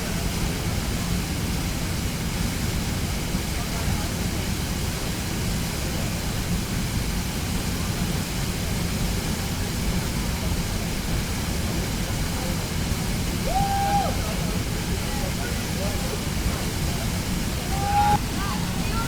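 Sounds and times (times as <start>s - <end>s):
waterfall rushing: 0.3s - 19.0s.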